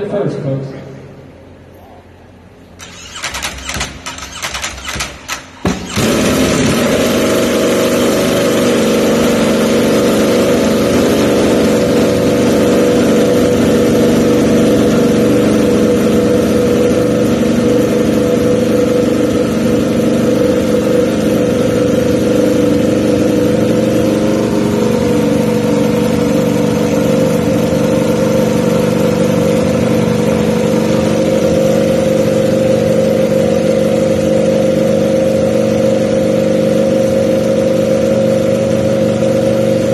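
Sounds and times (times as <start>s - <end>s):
motorcycle engine idling loudly: 2.8s - 39.9s.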